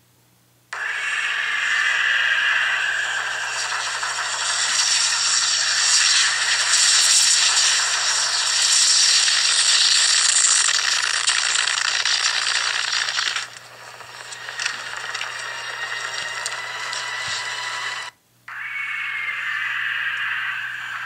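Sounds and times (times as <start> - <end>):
film soundtrack through small speaker: 0.6 - 21.0.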